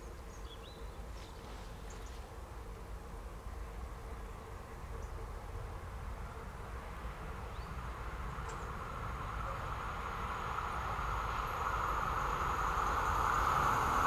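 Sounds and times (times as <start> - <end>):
train rolling along track: 0.0 - 14.0.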